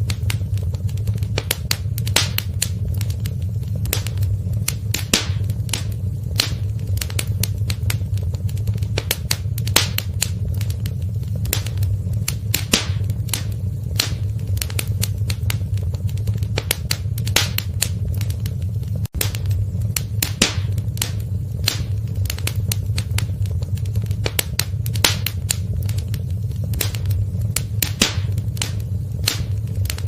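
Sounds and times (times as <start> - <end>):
low rumble: 0.0 - 30.0
wood fire crackling: 0.0 - 30.0.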